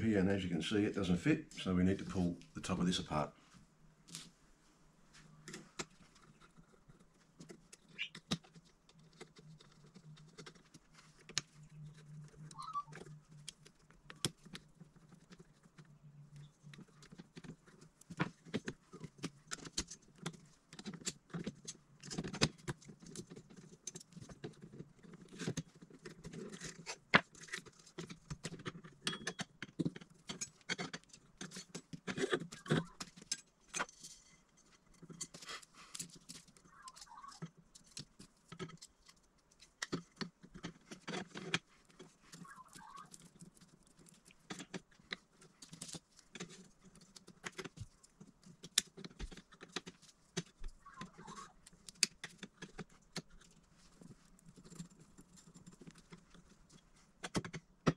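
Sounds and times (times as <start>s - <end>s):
hands handling cable parts: 5.2s - 57.9s.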